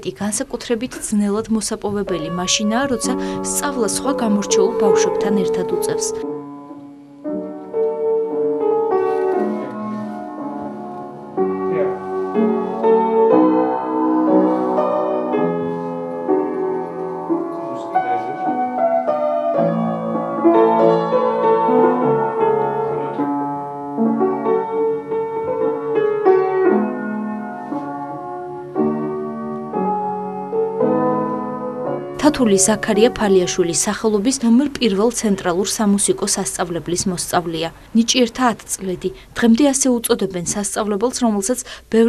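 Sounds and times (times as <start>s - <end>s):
classical piano piece: 0.0s - 41.8s.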